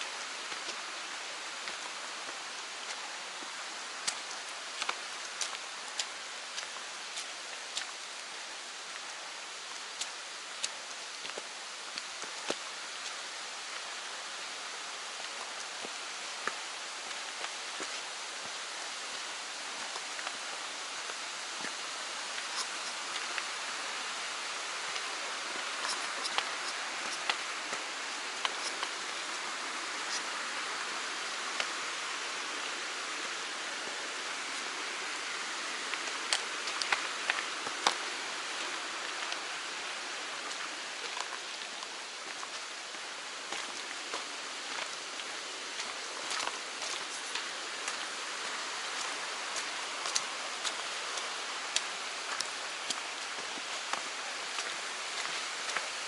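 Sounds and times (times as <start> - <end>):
mountain stream rushing: 0.0 - 56.0
running water: 0.0 - 56.0
water dripping: 0.2 - 32.4, 34.2 - 56.0.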